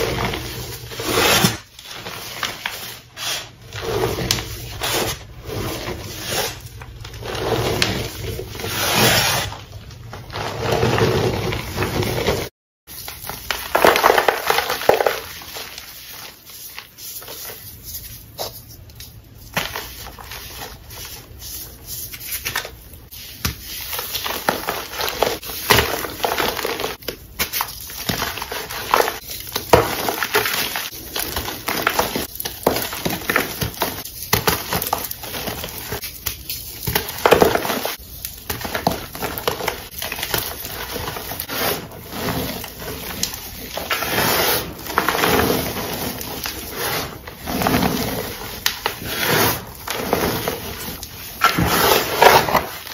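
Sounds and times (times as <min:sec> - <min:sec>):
chalk crunching and crumbling: 0:00.0 - 0:52.9.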